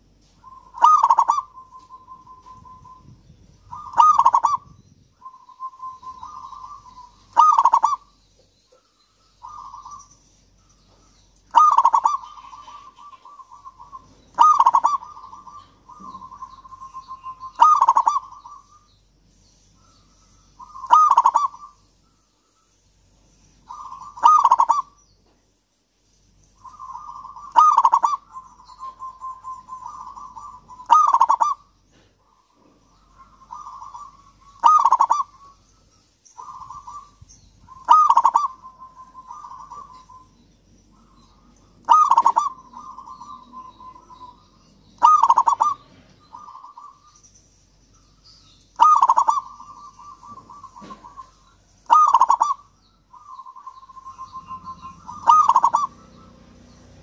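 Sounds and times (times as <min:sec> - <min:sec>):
dove cooing: 0:00.0 - 0:08.1, 0:09.4 - 0:10.1, 0:11.0 - 0:18.9, 0:20.3 - 0:21.8, 0:23.7 - 0:25.0, 0:26.6 - 0:35.7, 0:36.4 - 0:47.2, 0:48.8 - 0:57.0.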